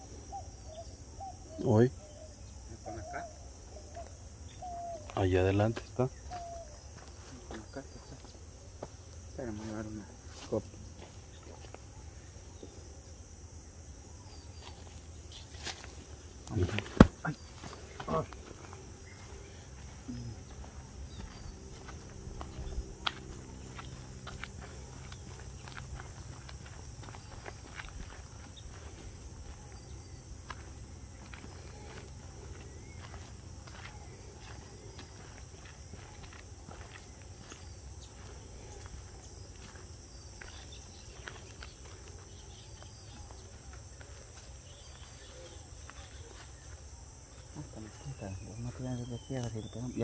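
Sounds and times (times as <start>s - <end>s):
faint low hum: 0.0s - 50.0s
insects buzzing: 0.0s - 50.0s.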